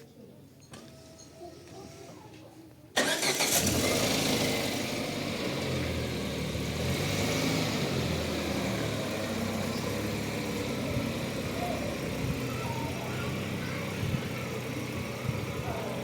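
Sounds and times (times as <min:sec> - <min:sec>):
car engine starting and running: 0:02.9 - 0:16.0.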